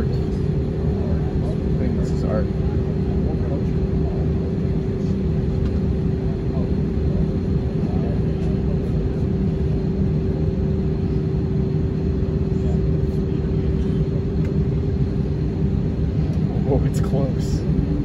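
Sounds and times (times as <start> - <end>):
jet cabin engine rumble: 0.0 - 18.0
steady single-pitch hum: 0.0 - 18.0.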